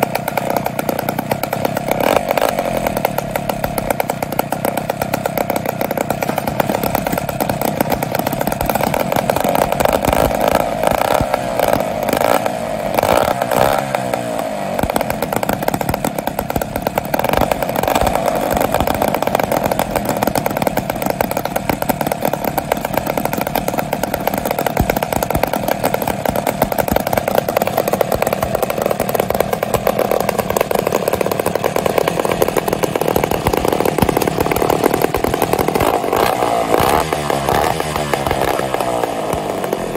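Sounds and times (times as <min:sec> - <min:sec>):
kart engines buzzing: 0:00.0 - 0:39.9.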